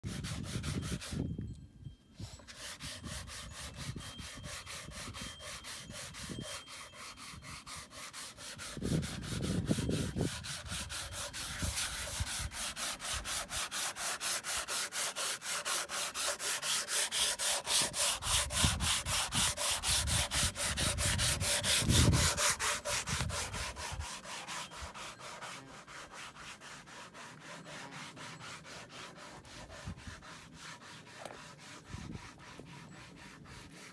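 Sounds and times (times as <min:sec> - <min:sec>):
hand sanding wood: 0:00.0 - 0:01.2, 0:02.2 - 0:33.9.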